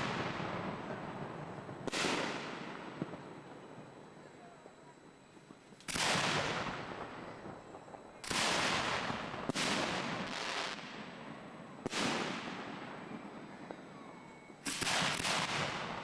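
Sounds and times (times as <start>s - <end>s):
fireworks bangs: 0.0s - 4.0s, 5.5s - 13.9s, 14.5s - 16.0s.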